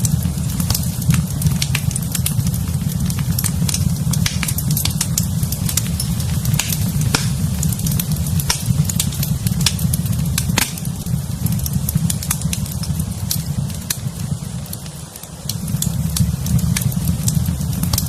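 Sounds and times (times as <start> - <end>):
low rumble of burning fire: 0.0 - 18.0
wood fire crackling and popping: 0.0 - 18.0.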